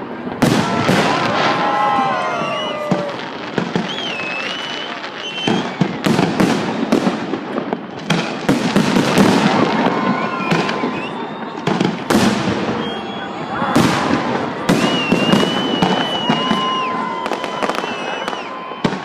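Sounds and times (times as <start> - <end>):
firework bangs: 0.0 - 19.0
firework crackling: 0.0 - 19.0.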